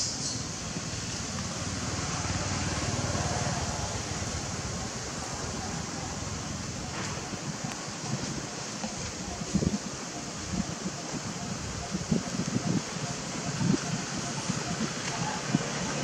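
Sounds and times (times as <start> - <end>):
steady high hiss: 0.0 - 16.0
wind buffeting microphone: 0.1 - 16.0.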